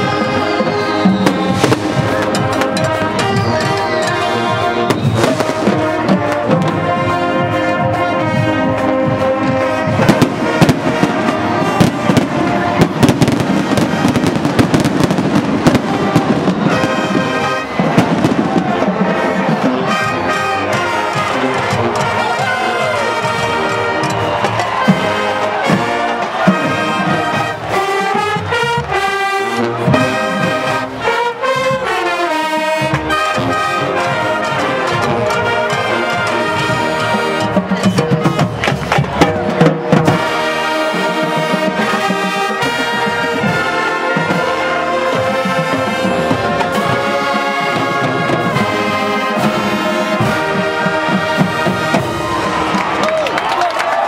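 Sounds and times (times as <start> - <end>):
marching band playing brass tune: 0.0 - 54.0.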